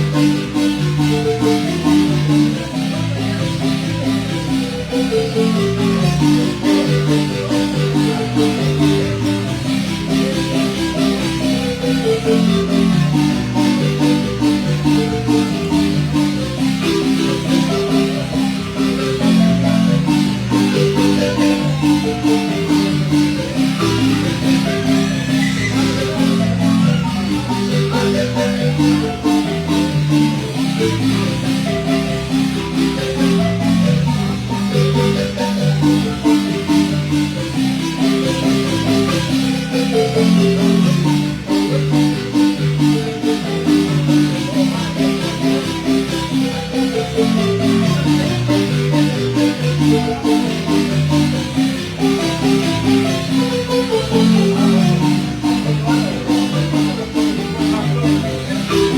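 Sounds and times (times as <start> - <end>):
marimba playing: 0.0 - 58.9.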